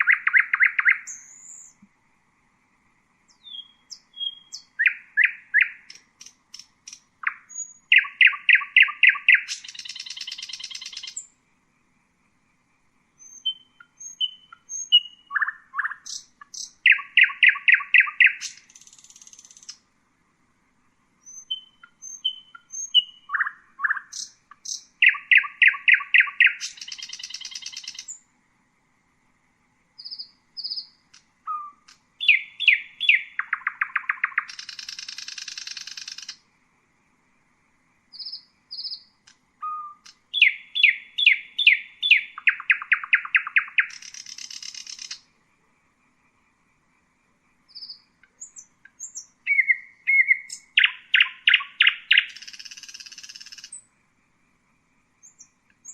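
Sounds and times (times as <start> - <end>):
nightingale singing: 0.0 - 1.9, 3.2 - 11.4, 13.1 - 19.9, 21.2 - 28.3, 30.0 - 36.5, 38.0 - 46.1, 46.7 - 54.0, 55.2 - 55.9.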